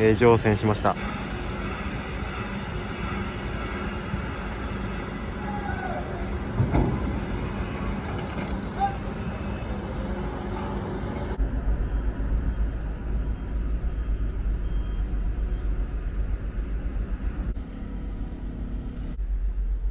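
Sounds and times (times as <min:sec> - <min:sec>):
faint machinery hum: 0:00.0 - 0:19.9
low harbour rumble: 0:00.0 - 0:19.9.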